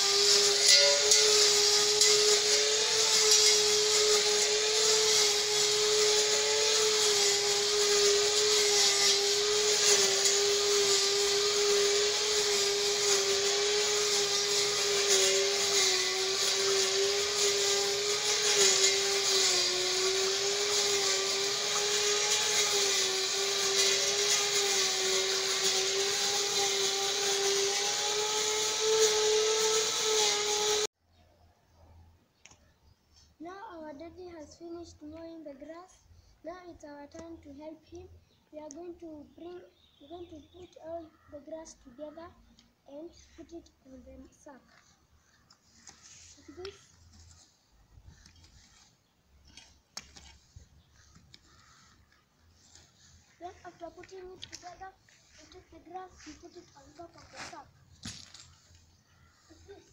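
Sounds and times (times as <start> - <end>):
angle grinder cutting grass: 0.0 - 31.0, 36.5 - 59.9.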